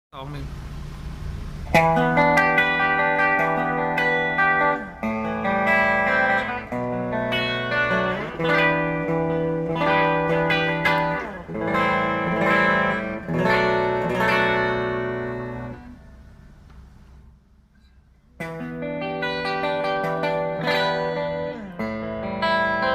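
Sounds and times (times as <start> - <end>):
electric guitar chords ringing: 1.2 - 17.0, 18.3 - 22.9.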